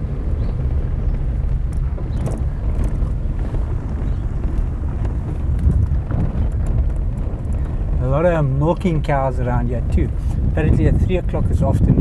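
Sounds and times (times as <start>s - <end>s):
car engine and tyres rumbling: 0.0s - 12.0s
light rattles: 0.1s - 11.9s.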